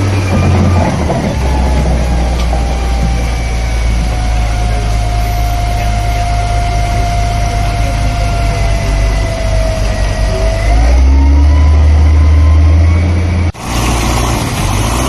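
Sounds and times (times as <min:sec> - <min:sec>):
faint falling whine: 0:00.0 - 0:13.5
heavy engine rumbling: 0:00.0 - 0:15.0.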